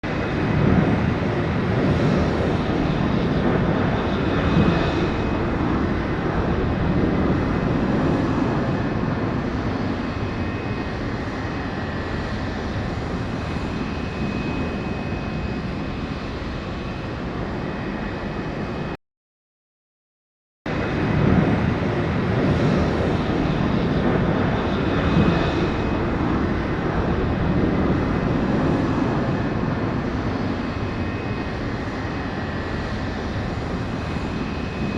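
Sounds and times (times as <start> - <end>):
aircraft engine noise: 0.0 - 19.0, 20.7 - 34.9.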